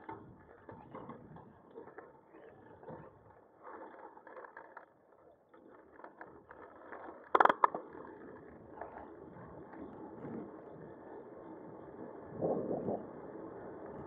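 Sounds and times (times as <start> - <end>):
bicycle rolling and wind noise: 0.0 - 14.0.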